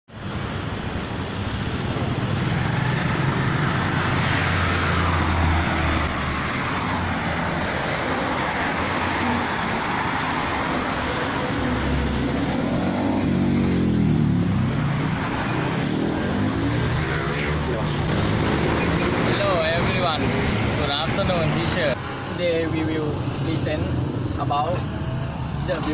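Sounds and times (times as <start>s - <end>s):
vehicles passing on road: 0.1s - 25.9s.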